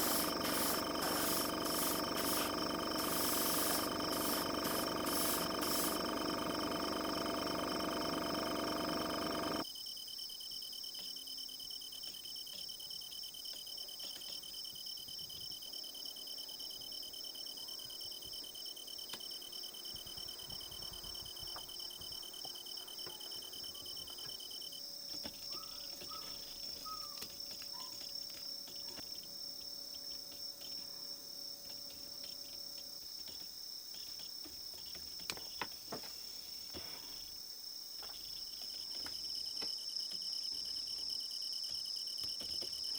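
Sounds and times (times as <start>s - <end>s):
crickets trilling: 0.0s - 35.7s
lower insect trill: 0.0s - 35.7s.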